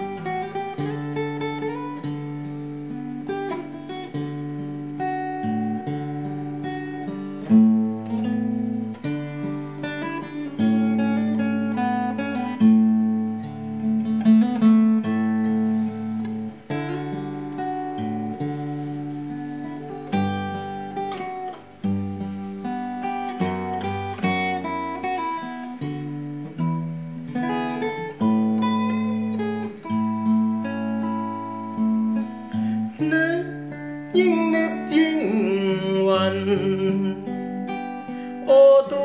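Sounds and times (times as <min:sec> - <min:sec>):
acoustic guitar playing: 0:00.0 - 0:39.0.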